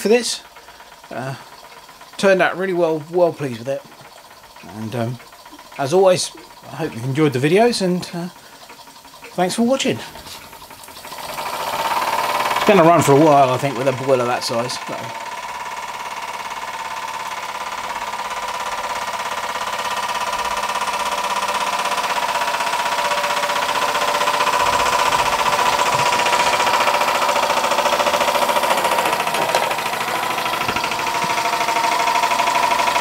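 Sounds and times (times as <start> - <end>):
model steam engine chuffing: 0.0 - 33.0.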